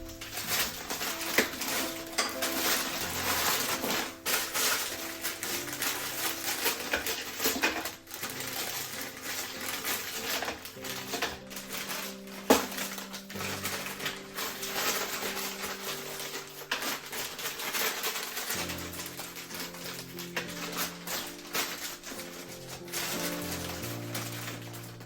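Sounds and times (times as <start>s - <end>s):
objects clicking and clinking: 0.0s - 25.0s
soft background music: 0.0s - 25.0s.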